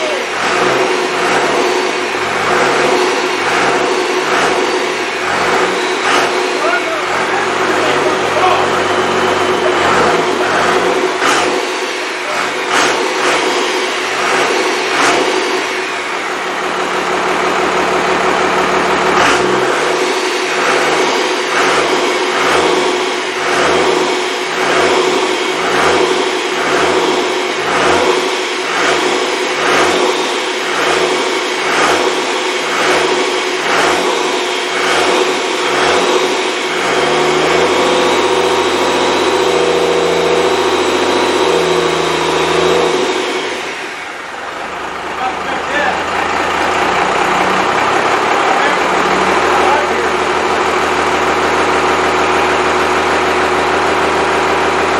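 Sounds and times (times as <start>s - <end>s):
diesel engine running loudly: 0.0s - 54.9s.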